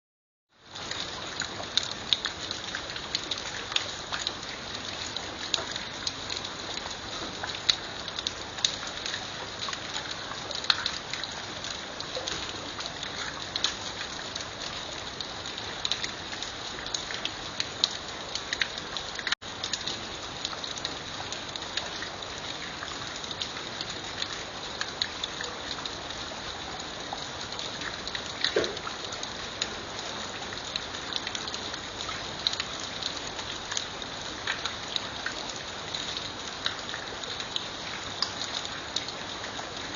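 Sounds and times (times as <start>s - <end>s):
raindrops ticking on a surface: 0.6s - 39.9s
steady rain hiss: 0.6s - 39.9s.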